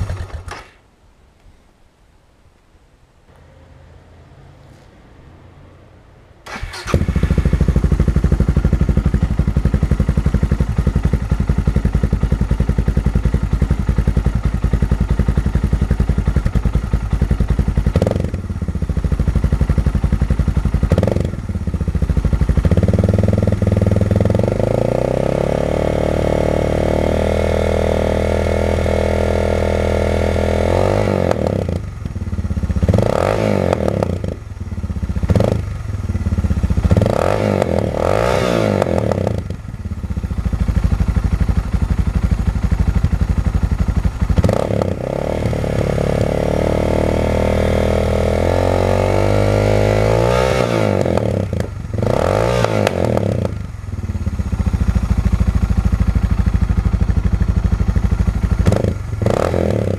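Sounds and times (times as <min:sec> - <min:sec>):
motorcycle engine idling: 0:06.4 - 0:49.1, 0:51.0 - 0:59.9.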